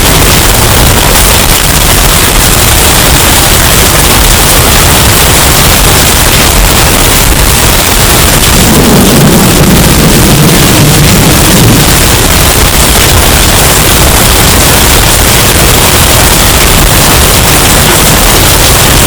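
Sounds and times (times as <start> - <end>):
deep rumble: 0.0 - 19.0
distorted hurricane wind roar: 0.0 - 19.0.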